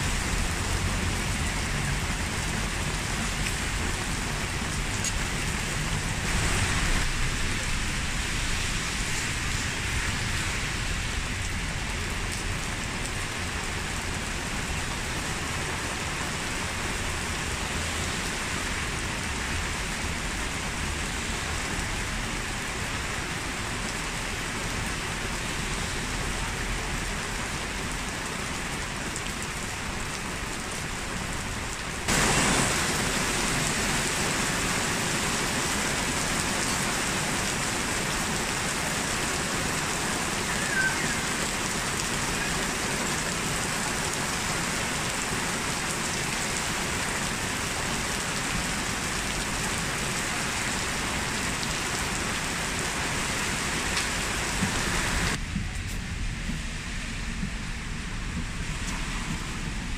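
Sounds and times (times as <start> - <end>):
heavy rain on wet street: 0.0 - 59.9.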